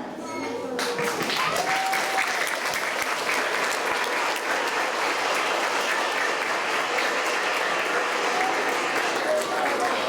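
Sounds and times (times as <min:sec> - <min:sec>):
children applauding and cheering: 0:00.7 - 0:10.0.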